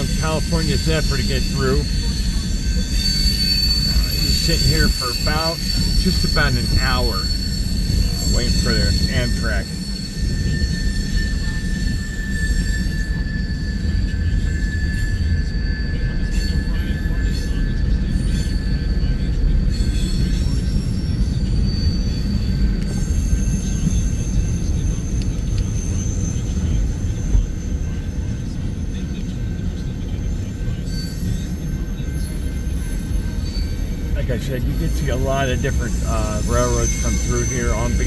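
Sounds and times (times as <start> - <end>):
high-pitched wheel squeal: 0.0 - 38.0
steel wheels rumbling on rail: 0.0 - 38.0.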